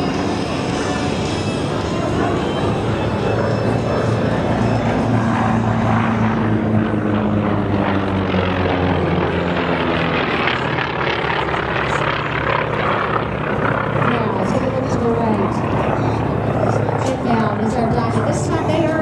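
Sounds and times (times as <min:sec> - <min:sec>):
propeller aircraft droning: 0:00.0 - 0:19.0.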